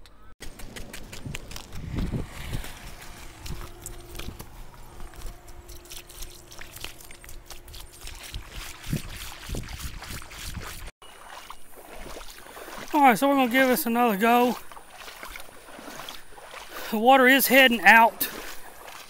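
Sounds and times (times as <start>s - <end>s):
water sloshing around wading legs: 0.4s - 19.0s.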